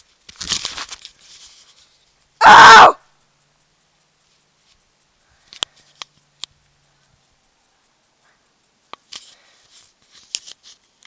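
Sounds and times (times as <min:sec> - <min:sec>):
short rustle: 0:00.0 - 0:02.3, 0:04.0 - 0:11.0.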